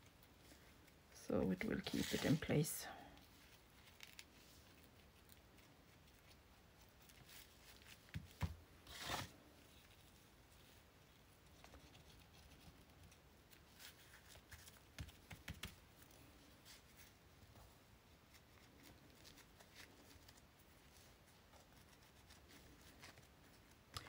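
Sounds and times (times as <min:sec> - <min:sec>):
paper rustling: 0:01.6 - 0:10.8, 0:11.4 - 0:23.9.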